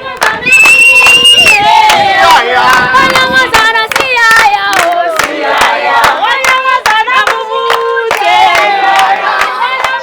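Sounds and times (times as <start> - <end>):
group singing: 0.0 - 10.0
rhythmic hand clapping: 0.1 - 0.5, 1.5 - 10.0.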